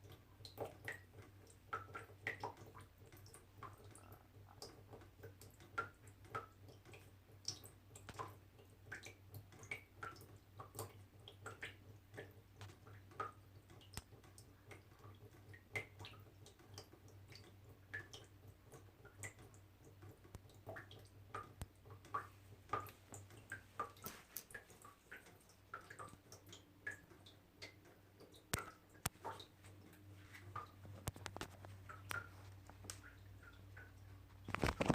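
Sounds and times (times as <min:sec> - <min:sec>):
water drops dripping: 0:00.0 - 0:34.9.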